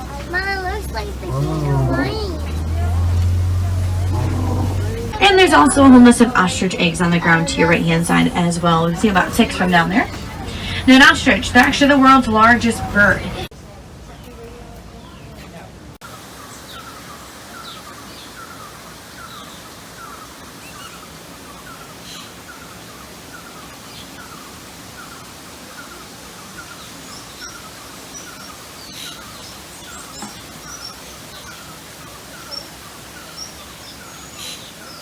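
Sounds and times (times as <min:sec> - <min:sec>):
birds chirping: 0:00.0 - 0:35.0
steady outdoor hiss: 0:00.0 - 0:35.0.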